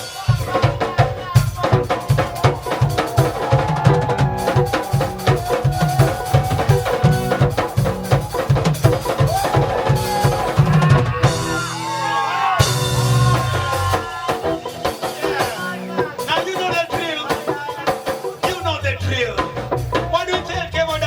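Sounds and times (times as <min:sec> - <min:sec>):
drum kit beat: 0:00.0 - 0:21.0
reggae band playing: 0:00.0 - 0:21.0.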